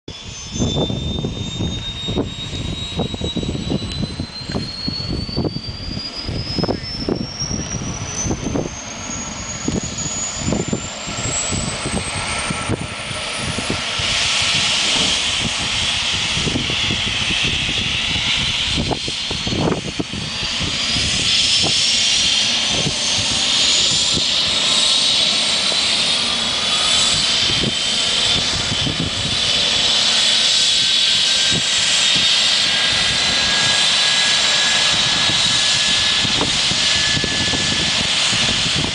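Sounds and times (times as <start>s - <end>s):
helicopter turbine whine: 0.1s - 38.9s.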